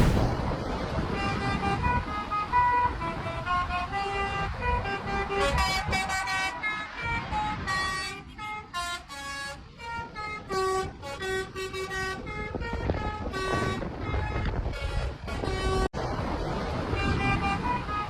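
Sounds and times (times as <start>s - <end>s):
road and engine noise: 0.0s - 18.0s.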